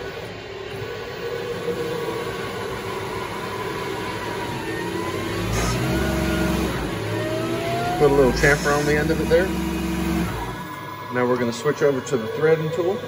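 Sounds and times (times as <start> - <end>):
lathe motor hum: 0.0 - 13.0
rising motor whine: 0.0 - 13.0.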